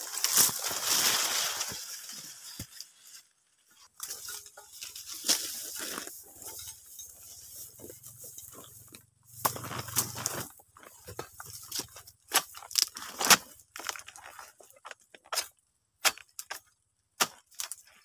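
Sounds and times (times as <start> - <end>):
dry fronds rustling: 0.0 - 14.8.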